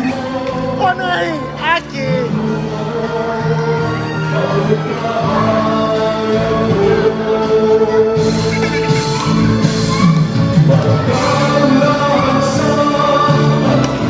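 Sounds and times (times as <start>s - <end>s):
music with singing: 0.0s - 14.0s.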